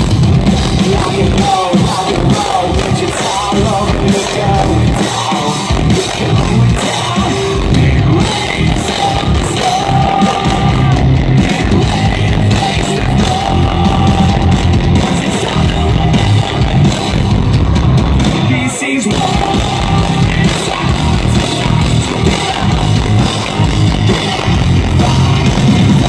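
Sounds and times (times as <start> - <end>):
bass guitar: 0.0 - 26.0
drum kit: 0.0 - 26.0
electric guitar: 0.0 - 26.0.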